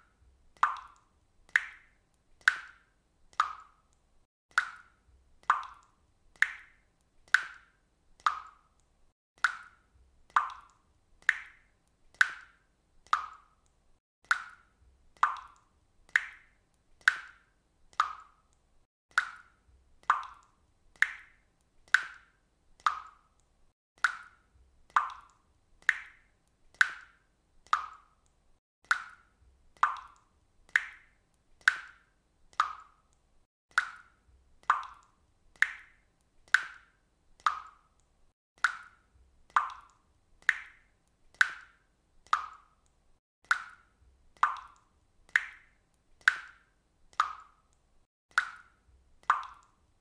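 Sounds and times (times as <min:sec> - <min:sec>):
water dripping from faucet: 0:00.0 - 0:50.0.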